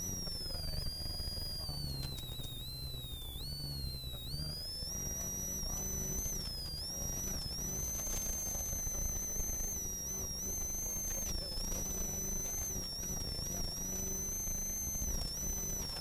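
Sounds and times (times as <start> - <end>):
high turbo whine: 0.0 - 16.0.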